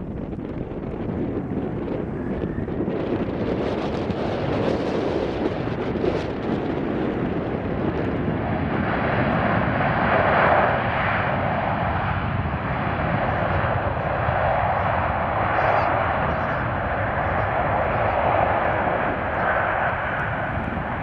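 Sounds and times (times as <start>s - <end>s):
jet engines passing: 0.0s - 21.0s
wind buffeting microphone: 0.0s - 21.0s.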